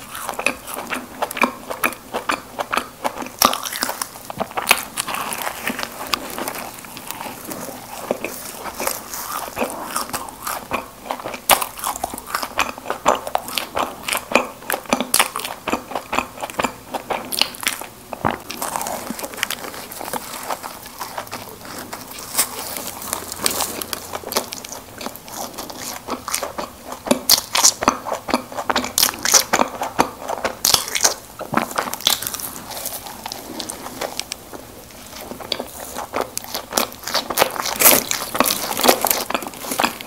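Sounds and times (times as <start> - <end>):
chewing with mouth clicks and smacks: 0.0 - 40.0.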